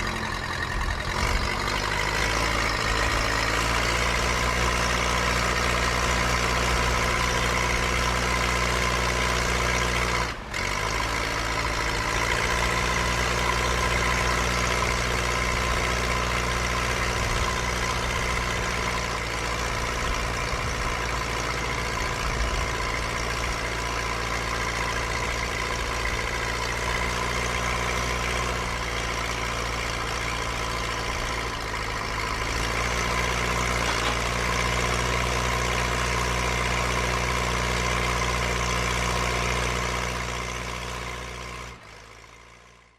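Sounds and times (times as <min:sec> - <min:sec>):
bulldozer diesel engine idling: 0:00.0 - 0:42.9.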